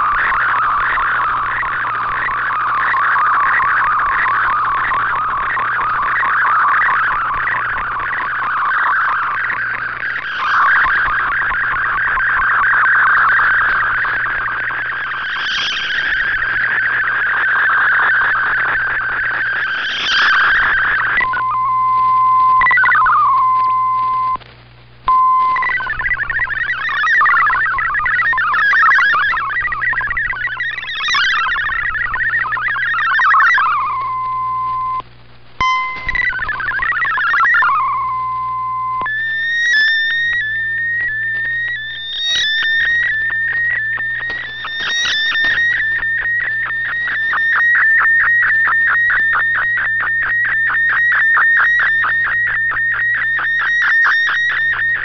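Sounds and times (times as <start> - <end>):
rapid ticking warble: 0.0 - 24.2, 25.5 - 55.0
steady single tone: 0.0 - 24.4, 25.1 - 55.0
warbling data tones: 0.0 - 24.4, 25.1 - 55.0.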